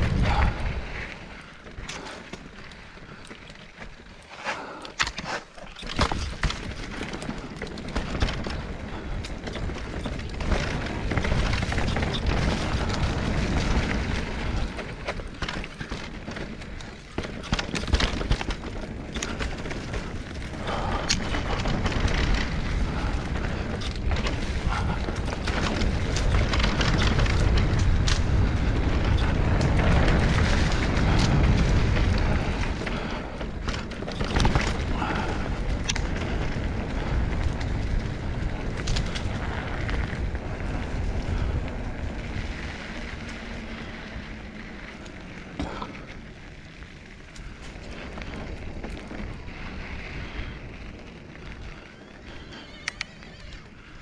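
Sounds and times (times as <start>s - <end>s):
wind buffeting microphone: 0.0s - 2.2s, 6.0s - 54.0s.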